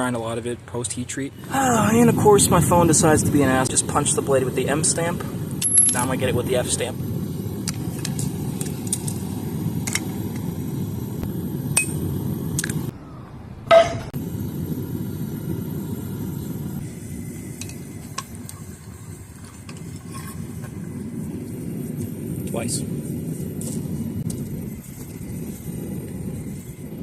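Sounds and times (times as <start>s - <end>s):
steady low rumble: 1.4s - 12.9s, 14.1s - 27.0s.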